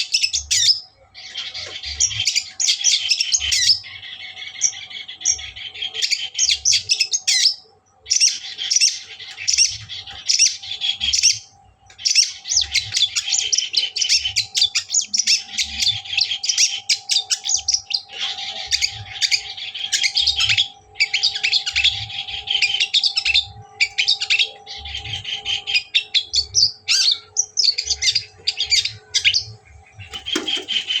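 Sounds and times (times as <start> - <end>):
bird harsh chattering song: 0.0 - 31.0
faint steady hum: 0.0 - 31.0.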